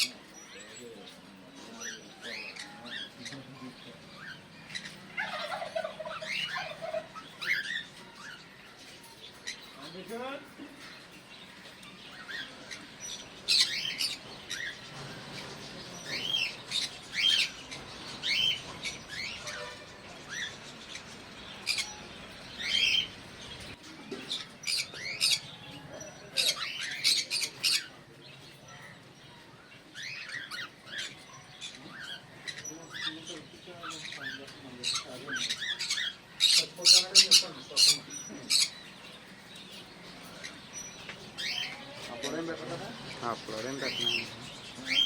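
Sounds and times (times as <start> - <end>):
parrots chirping and squawking: 0.0 - 45.0.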